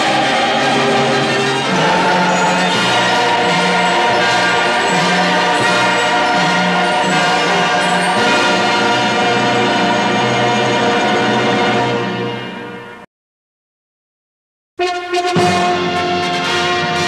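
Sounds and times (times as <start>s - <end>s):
orchestral music: 0.0s - 13.1s, 14.8s - 17.0s.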